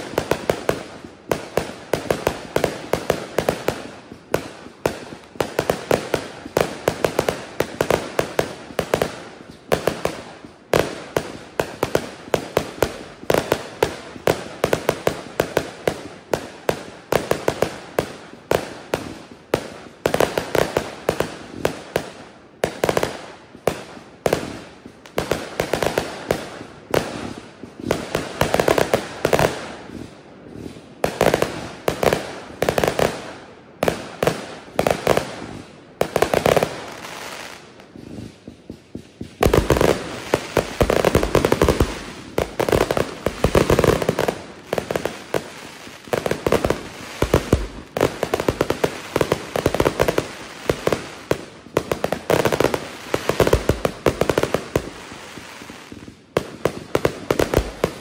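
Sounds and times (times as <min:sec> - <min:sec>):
fireworks firing: 0:00.0 - 0:58.0.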